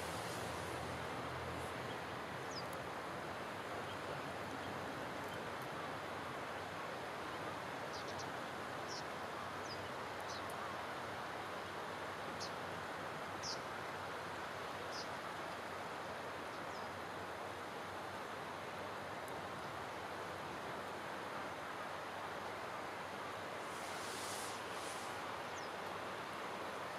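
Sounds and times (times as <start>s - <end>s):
wind hiss: 0.0s - 26.9s.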